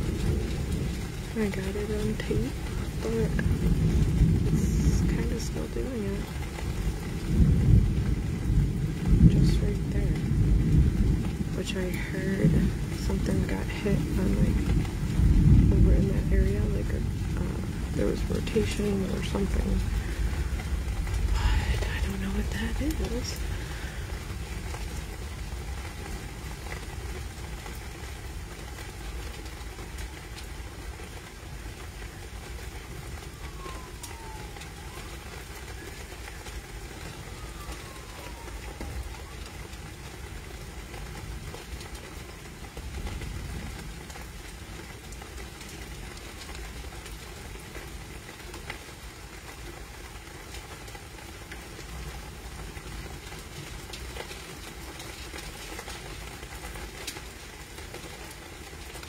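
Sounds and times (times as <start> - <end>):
low rumbling storm noise: 0.0 - 59.0.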